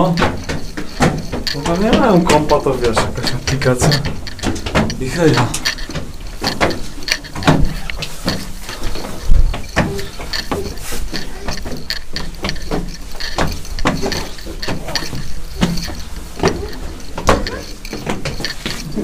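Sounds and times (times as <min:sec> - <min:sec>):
footsteps on stone stairs: 0:00.0 - 0:19.0.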